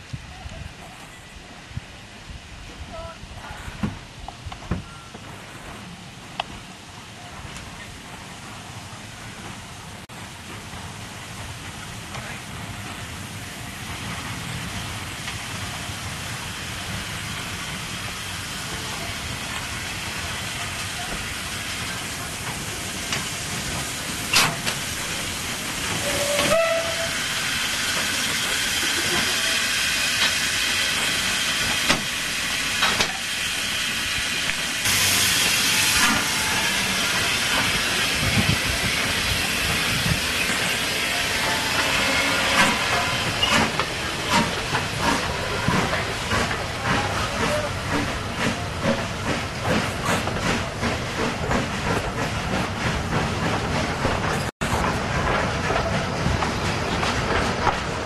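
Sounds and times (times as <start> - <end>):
rush of steam: 0.0 - 58.0
steam locomotive hissing steam: 4.8 - 58.0.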